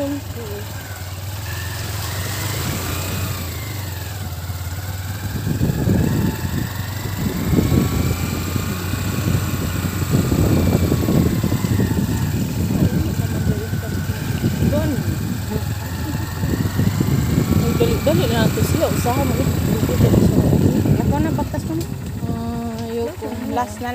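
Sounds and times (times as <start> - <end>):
motorcycle engine running: 0.0 - 23.9
uneven low rumbling: 0.0 - 23.9.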